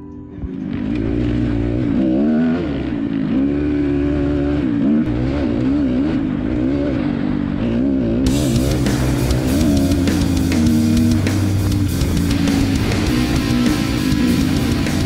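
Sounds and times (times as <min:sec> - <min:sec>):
dirt bike engine revving: 0:00.5 - 0:15.0.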